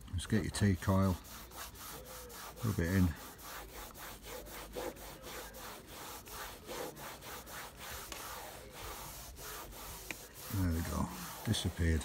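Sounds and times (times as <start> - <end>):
cloth rubbing on plastic: 0.5 - 12.0.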